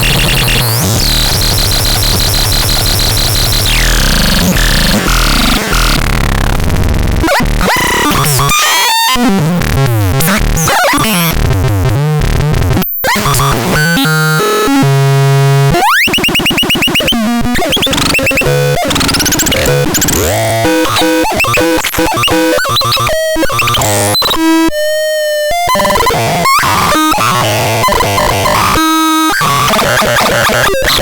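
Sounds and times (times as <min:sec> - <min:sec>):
electronic synthesizer noise: 0:00.0 - 0:31.0.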